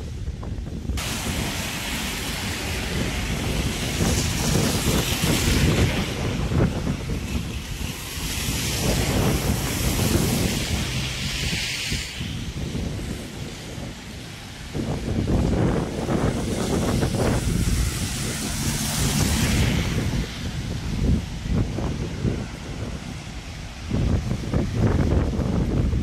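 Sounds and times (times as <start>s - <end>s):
hiss of wet street: 0.0s - 26.0s
wind buffeting microphone: 0.0s - 26.0s.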